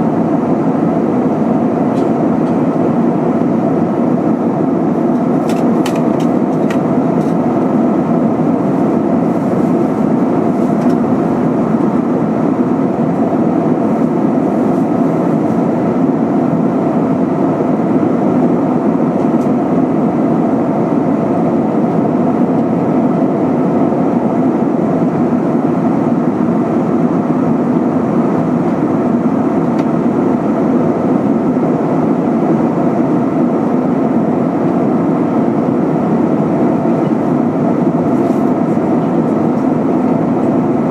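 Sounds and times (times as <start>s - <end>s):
air rushing along fuselage: 0.0s - 40.9s
jet engines droning: 0.0s - 40.9s.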